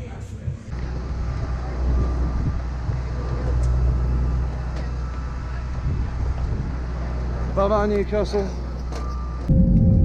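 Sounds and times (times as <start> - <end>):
low rumble of airport apron: 0.0 - 10.0.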